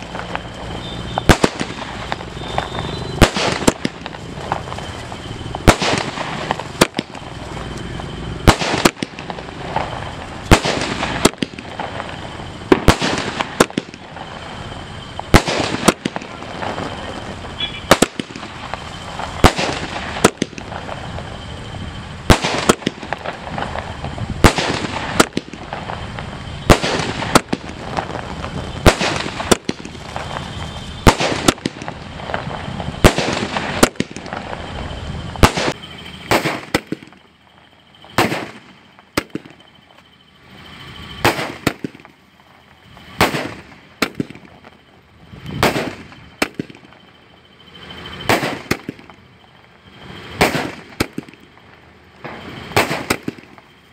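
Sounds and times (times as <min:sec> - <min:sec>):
crackling firework stars: 0:00.0 - 0:53.9
firework bangs: 0:00.0 - 0:53.9.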